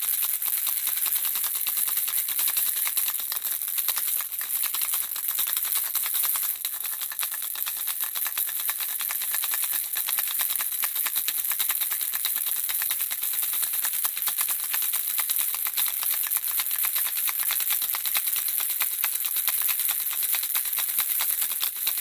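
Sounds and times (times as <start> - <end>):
baby rattle shaken: 0.0 - 22.0.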